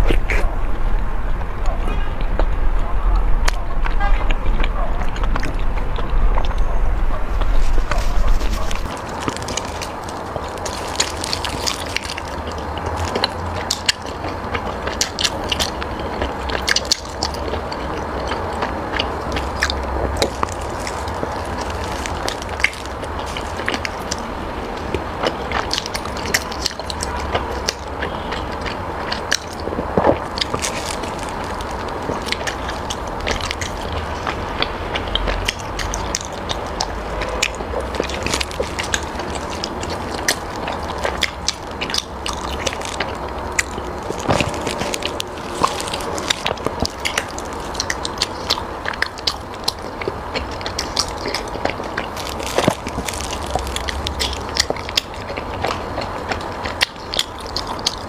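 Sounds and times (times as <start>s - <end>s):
low steady hum: 0.0s - 58.0s
person chewing food: 0.0s - 58.0s
wet mouth clicks and smacks: 7.4s - 58.0s.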